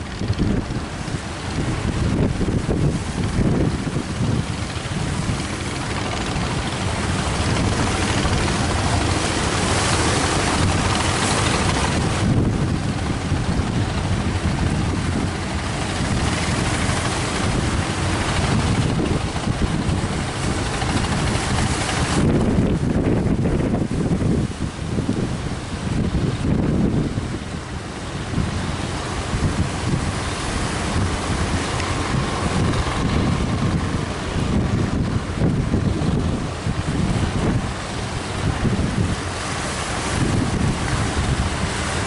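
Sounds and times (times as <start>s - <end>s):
sea surf rushing: 0.0s - 42.0s
wind buffeting microphone: 0.0s - 42.0s.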